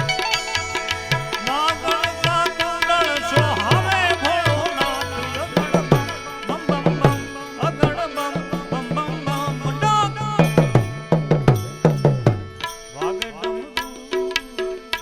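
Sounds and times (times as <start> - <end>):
rapid tabla drumming: 0.0 - 15.0.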